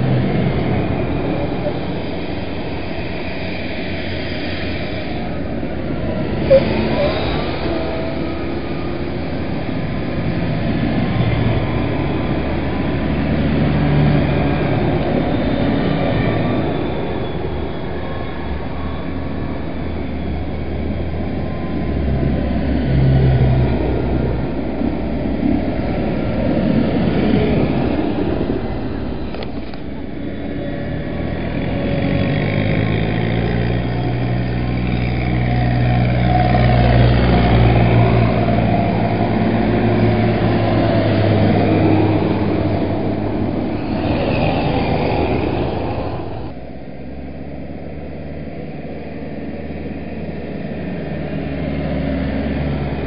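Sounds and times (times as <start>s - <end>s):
tractor diesel engines passing: 0.0s - 53.0s.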